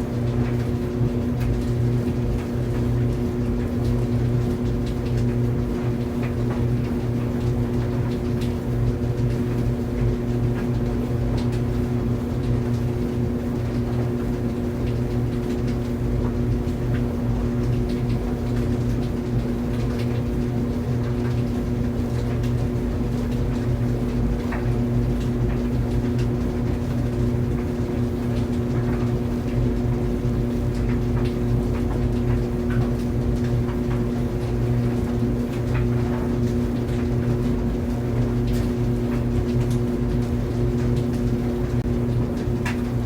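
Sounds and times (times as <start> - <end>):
dryer motor and drum hum: 0.0 - 43.0.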